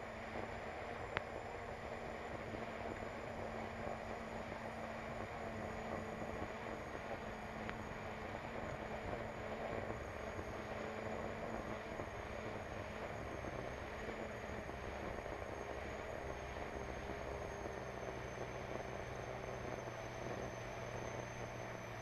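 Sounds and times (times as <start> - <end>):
turbine engine high whine: 0.0 - 22.0.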